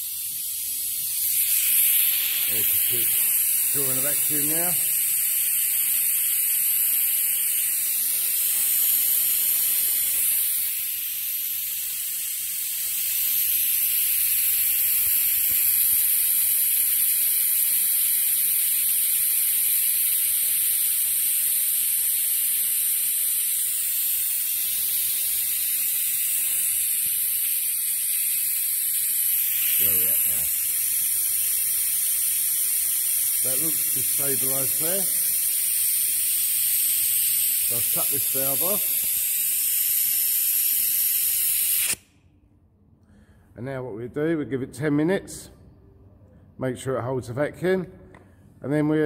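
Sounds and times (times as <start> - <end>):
compressed air hissing: 0.0 - 42.1.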